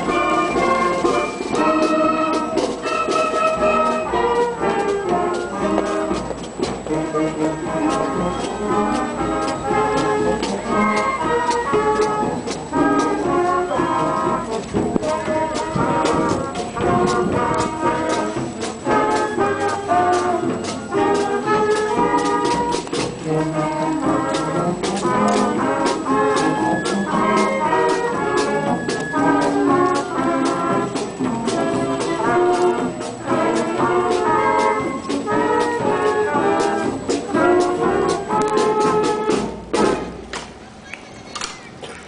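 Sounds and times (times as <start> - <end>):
steady bass drum beat: 0.0 - 40.0
horns carrying the tune: 0.0 - 40.3
marching band playing: 0.0 - 40.8.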